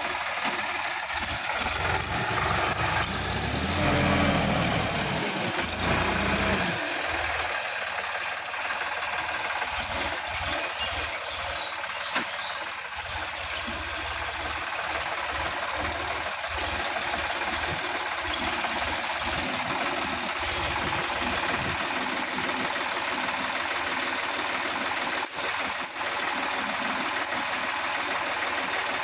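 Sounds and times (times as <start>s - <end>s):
tractor diesel engine: 0.0s - 29.0s.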